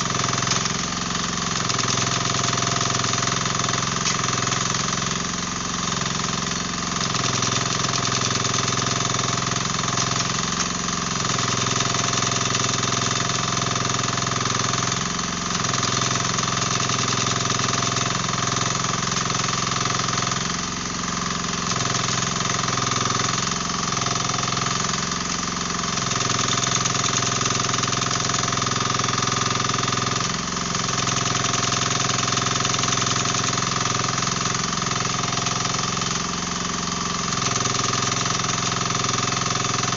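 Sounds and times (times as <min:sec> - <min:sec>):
hydraulic breaker hammering ground: 0:00.0 - 0:39.9.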